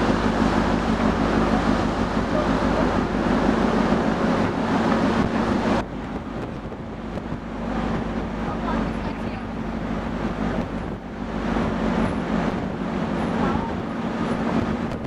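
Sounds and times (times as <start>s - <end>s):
ship engines humming: 0.0s - 15.0s
wind on microphone: 0.0s - 15.0s.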